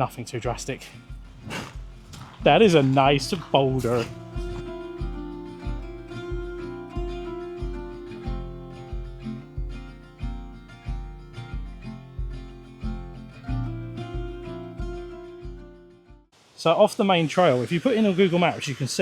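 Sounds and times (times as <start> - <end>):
acoustic guitar: 0.0 - 16.3
steady bass beat: 0.0 - 16.3.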